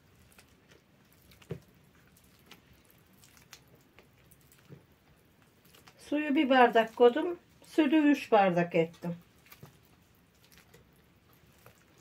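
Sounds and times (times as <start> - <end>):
hand squishing wet dough: 0.0 - 12.0.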